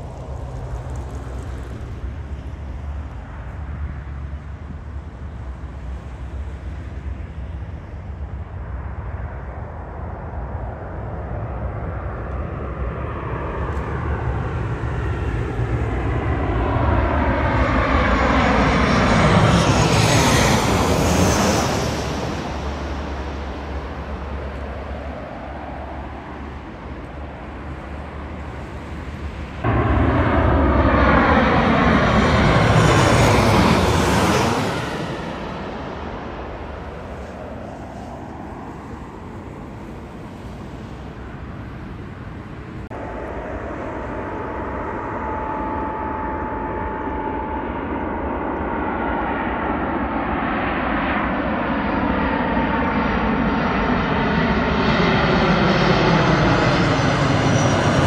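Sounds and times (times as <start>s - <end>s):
jet airliner passing overhead: 0.0s - 58.0s
loud jet noise: 0.0s - 58.0s.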